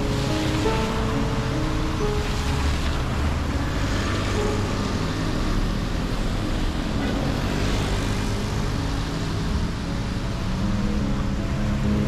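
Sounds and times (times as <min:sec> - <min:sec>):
car engine rumble: 0:00.0 - 0:12.0
rain: 0:00.0 - 0:12.0
tyres hissing on wet road: 0:00.0 - 0:12.0
wind: 0:00.0 - 0:12.0.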